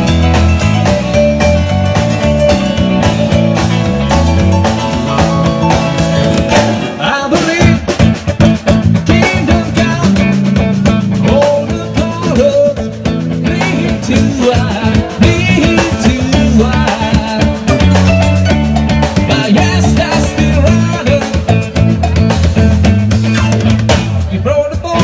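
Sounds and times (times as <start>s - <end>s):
rock band music: 0.0s - 25.0s.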